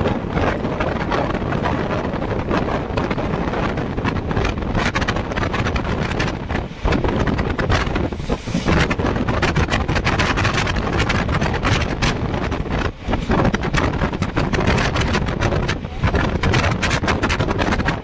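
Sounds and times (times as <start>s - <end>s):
train running on rails: 0.0s - 18.0s
wind buffeting microphone: 0.0s - 18.0s.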